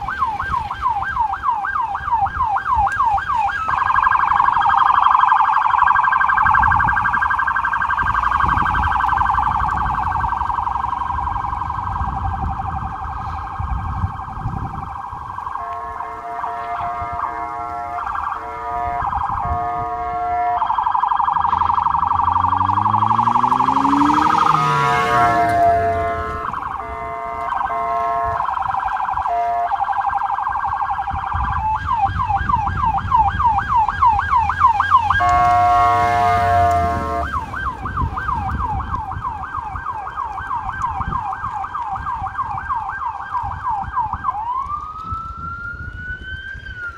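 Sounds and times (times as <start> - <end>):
siren switching tones: 0.0 - 46.9.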